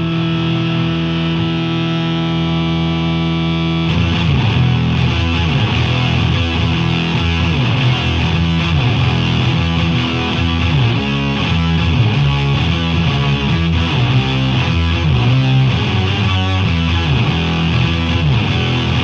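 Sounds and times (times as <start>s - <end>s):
distorted electric guitar riff: 0.0s - 19.0s.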